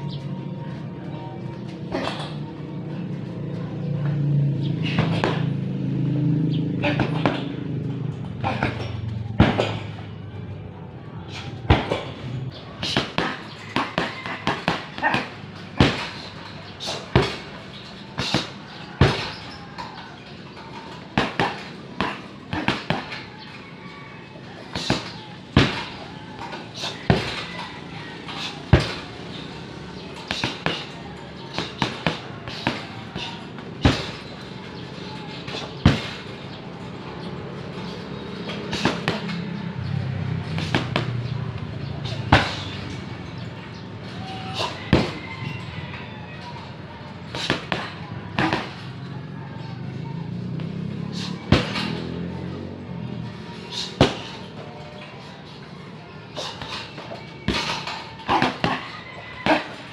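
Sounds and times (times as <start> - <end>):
punches and kicks on punching bags: 4.2 - 10.5, 11.3 - 23.4, 24.6 - 54.6, 56.3 - 59.9.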